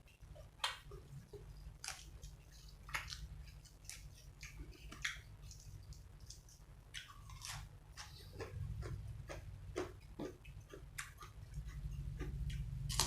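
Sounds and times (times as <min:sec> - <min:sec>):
low steady hum: 0:00.0 - 0:13.0
person chewing food: 0:00.0 - 0:13.0.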